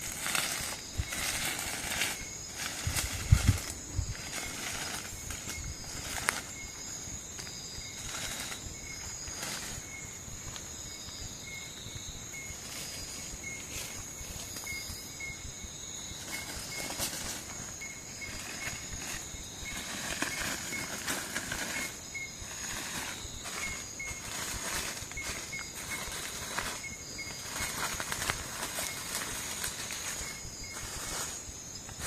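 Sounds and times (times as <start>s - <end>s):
faint rustles: 0.0s - 15.4s, 16.1s - 32.0s
insects buzzing: 0.0s - 32.0s.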